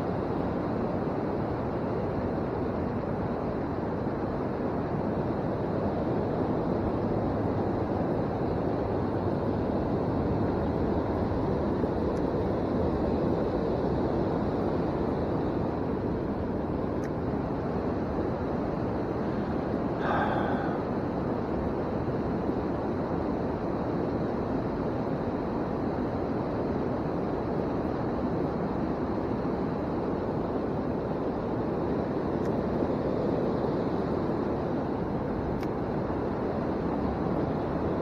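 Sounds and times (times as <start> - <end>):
steady rushing noise: 0.0 - 38.0.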